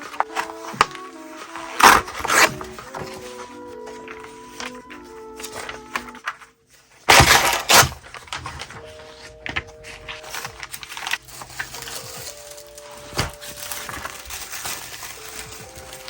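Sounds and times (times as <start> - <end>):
paper rustling: 0.0 - 16.0
soft background music: 0.0 - 16.0.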